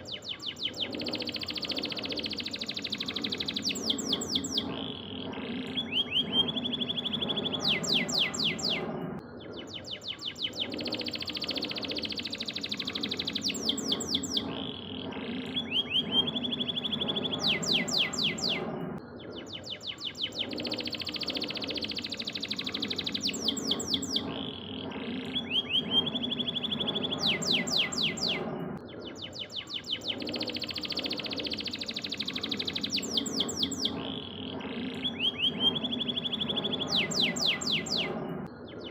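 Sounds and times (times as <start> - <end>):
canary singing trills: 0.0 - 38.9
steady low hum: 0.0 - 38.9.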